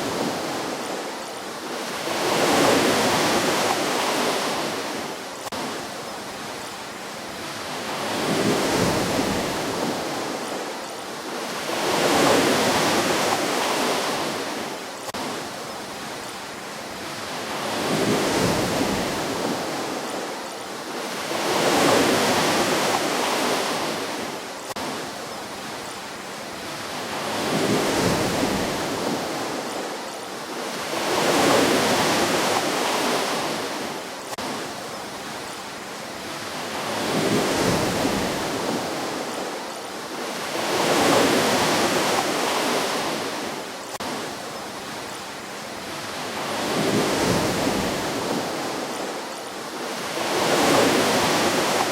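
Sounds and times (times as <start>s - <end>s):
ocean waves breaking on shore: 0.0s - 51.9s.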